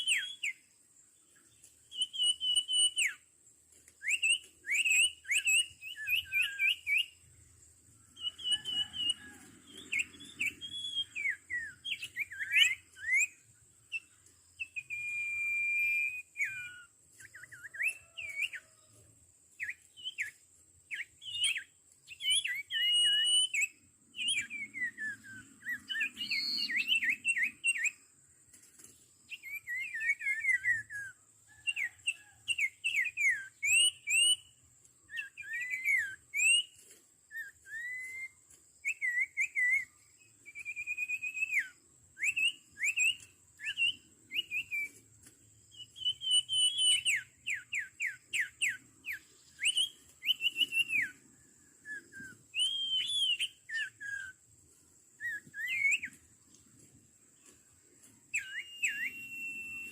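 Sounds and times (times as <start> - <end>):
birds calling with whistled notes: 0.0 - 59.9.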